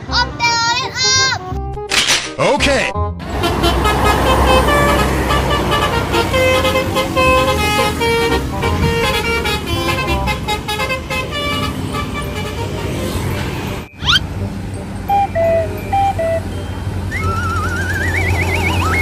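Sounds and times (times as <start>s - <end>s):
bus musical horn melody: 3.2s - 19.0s
low engine rumble: 3.2s - 19.0s.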